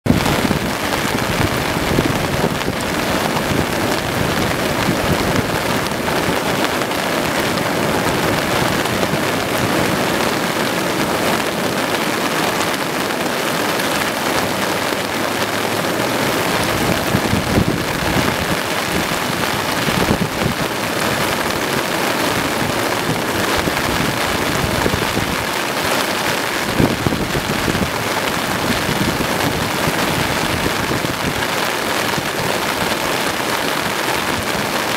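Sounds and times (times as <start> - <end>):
flooded river rushing: 0.0 - 34.9
rain falling: 0.0 - 34.9.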